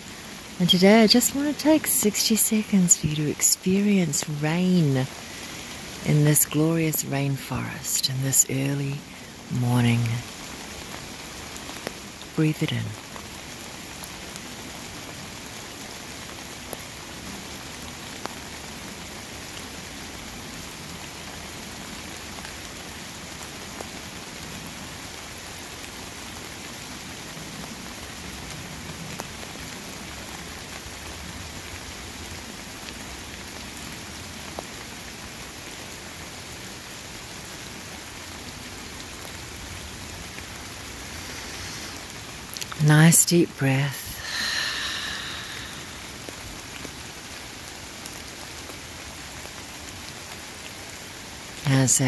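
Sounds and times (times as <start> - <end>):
steady rain on vegetation: 0.0 - 52.0.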